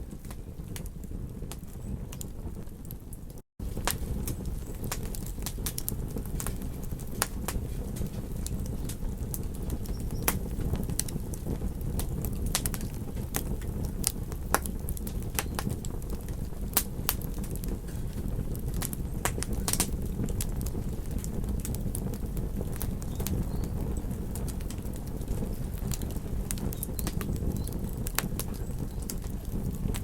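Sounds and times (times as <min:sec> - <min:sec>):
burning wood crackling and popping: 0:00.0 - 0:30.0
campfire low rush: 0:00.0 - 0:30.0.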